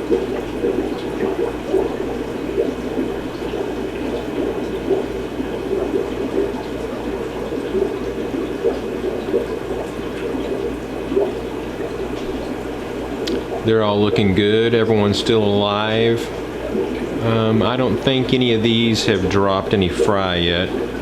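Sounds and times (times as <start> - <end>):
aquarium water bubbling: 0.0 - 21.0
low steady hum: 0.0 - 21.0.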